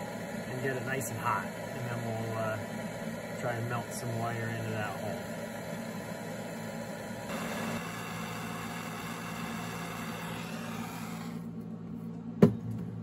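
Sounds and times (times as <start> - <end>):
propane torch hissing: 0.0 - 11.5.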